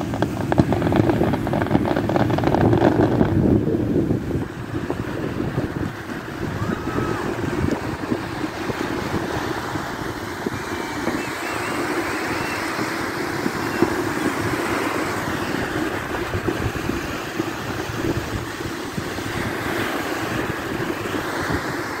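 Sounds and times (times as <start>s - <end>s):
wind blowing across microphone: 0.0s - 22.0s.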